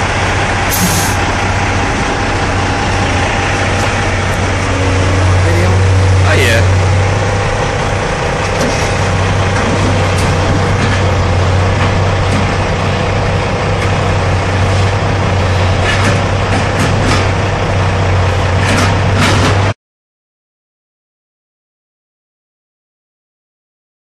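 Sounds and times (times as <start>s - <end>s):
heavy diesel engines droning: 0.0s - 19.8s.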